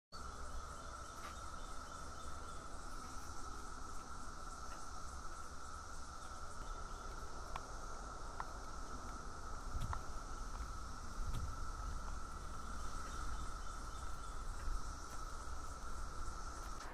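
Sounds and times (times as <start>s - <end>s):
crickets chirping: 0.1s - 16.9s.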